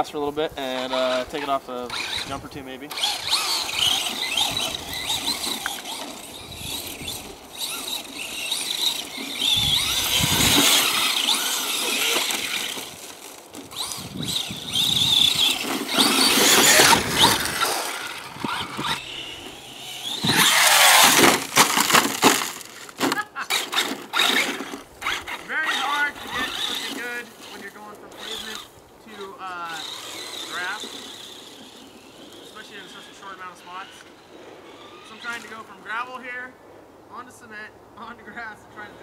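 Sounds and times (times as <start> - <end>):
rc truck motor whining: 0.8 - 35.7.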